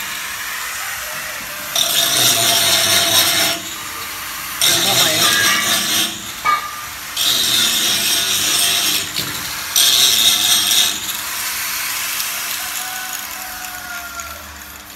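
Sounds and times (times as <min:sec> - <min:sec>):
arc welding hiss: 0:00.0 - 0:14.9.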